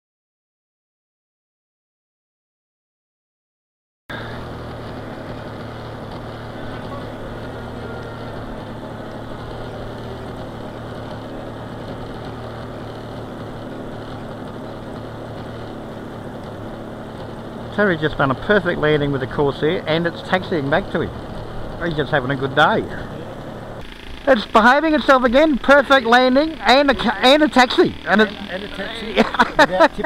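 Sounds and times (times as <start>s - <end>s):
model plane engine running: 4.1s - 30.0s.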